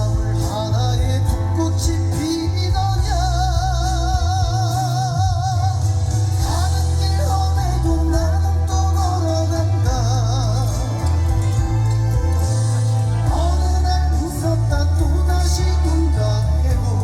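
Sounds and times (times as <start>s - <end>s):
band playing with heavy bass: 0.0s - 17.0s
man singing with vibrato: 0.0s - 17.0s.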